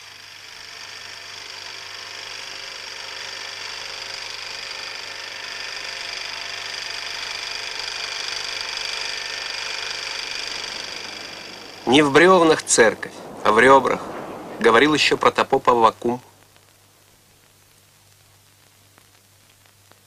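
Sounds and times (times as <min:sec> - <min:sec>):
low hum: 0:00.0 - 0:19.8
mechanical whirring hiss: 0:00.0 - 0:20.0.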